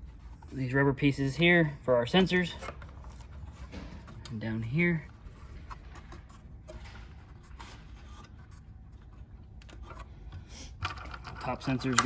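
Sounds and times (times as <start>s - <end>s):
faint clicks and handling noises: 2.1s - 12.0s.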